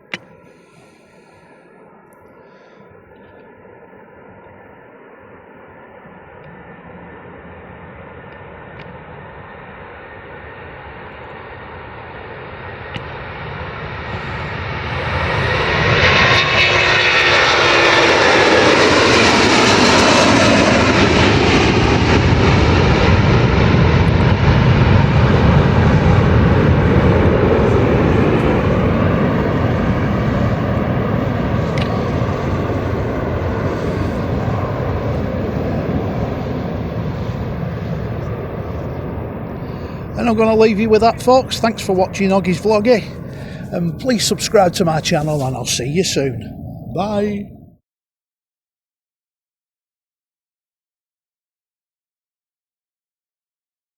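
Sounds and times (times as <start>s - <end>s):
jet engines at takeoff: 0.0s - 47.7s.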